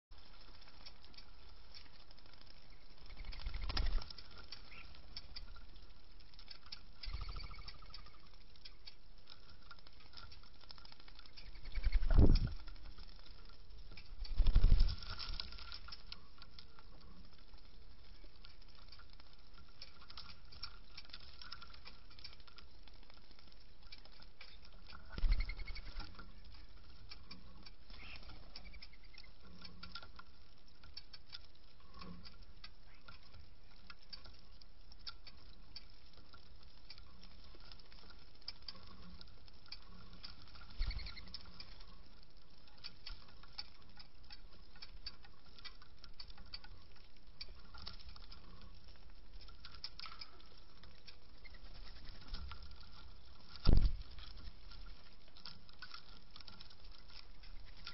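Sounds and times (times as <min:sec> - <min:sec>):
doves pecking seeds: 0:00.1 - 0:57.9.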